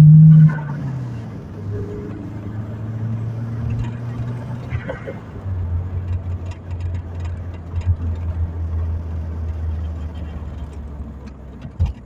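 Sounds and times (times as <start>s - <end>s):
car engine drone from inside cabin: 0.0s - 12.0s.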